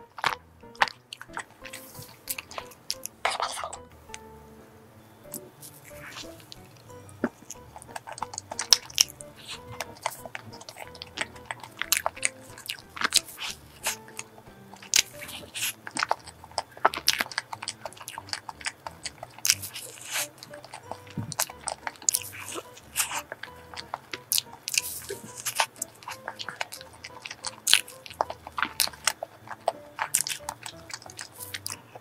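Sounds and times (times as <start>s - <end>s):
chewing and biting soft cake: 0.0s - 4.3s, 5.3s - 32.0s
wet mouth clicks and smacks: 0.2s - 4.2s, 5.3s - 32.0s.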